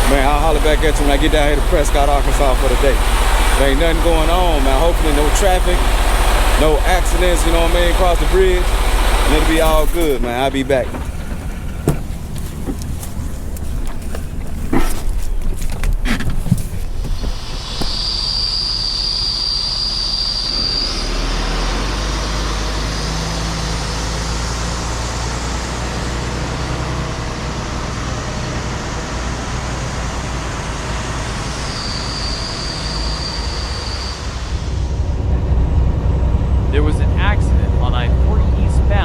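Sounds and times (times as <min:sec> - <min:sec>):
high steady squeal: 0:00.0 - 0:25.4, 0:28.7 - 0:39.0
truck engine and road rumble: 0:00.0 - 0:39.0.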